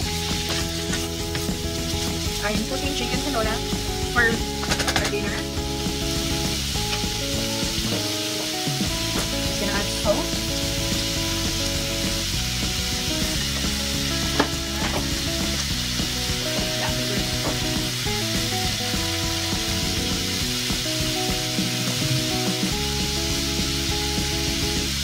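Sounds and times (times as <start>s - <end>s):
food sizzling in a saucepan: 0.0s - 25.0s.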